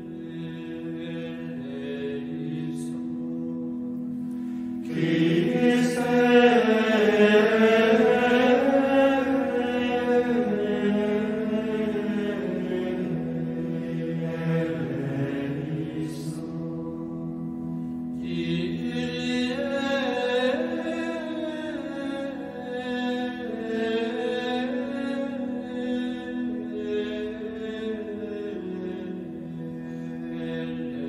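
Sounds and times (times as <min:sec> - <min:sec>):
chanted vocals: 0:00.0 - 0:31.0
low drone: 0:00.0 - 0:31.0.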